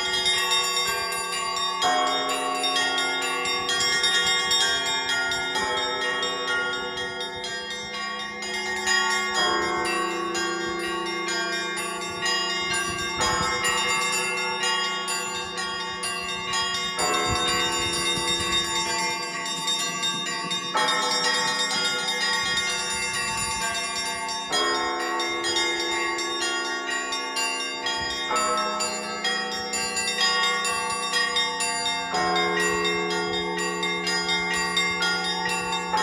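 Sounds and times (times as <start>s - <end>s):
low bell hum: 0.0s - 36.0s
small church bells striking: 0.0s - 36.0s.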